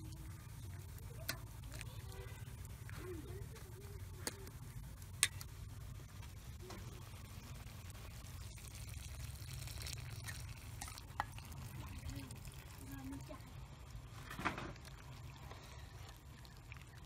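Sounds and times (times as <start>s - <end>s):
broth pouring into pot: 0.0s - 17.0s
low steady rumble: 0.0s - 17.0s.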